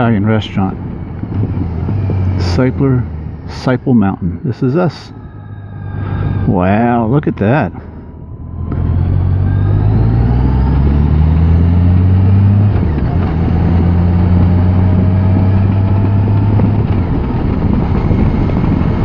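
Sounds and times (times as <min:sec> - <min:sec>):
motorcycle engine: 0:00.0 - 0:19.0
wind and road rush: 0:00.0 - 0:19.0.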